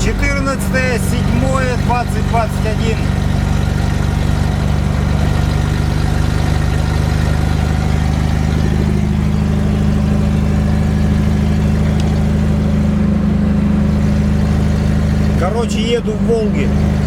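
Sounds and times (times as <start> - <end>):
car engine exhaust drone: 0.0 - 17.0.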